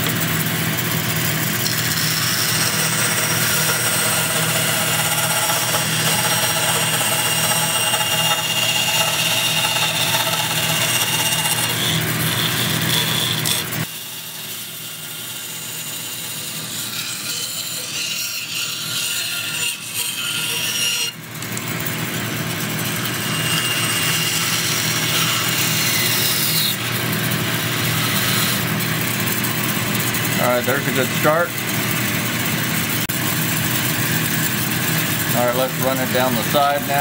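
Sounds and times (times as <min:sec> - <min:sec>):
bandsaw cutting wood: 0:00.0 - 0:37.0.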